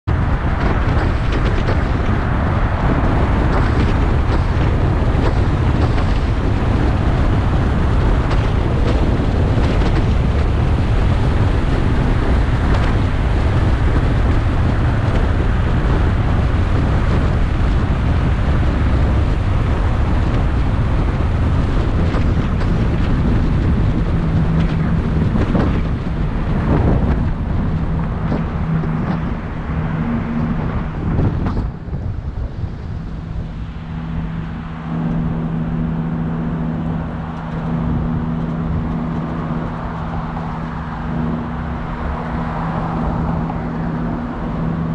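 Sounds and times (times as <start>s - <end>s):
low steady hum: 0.0s - 44.9s
road and wind noise: 0.0s - 44.9s
wind buffeting microphone: 0.0s - 44.9s.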